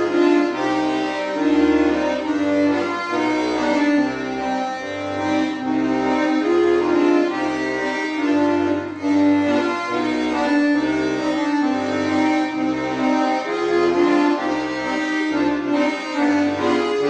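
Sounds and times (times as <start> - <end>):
button accordion folk melody: 0.0 - 17.0.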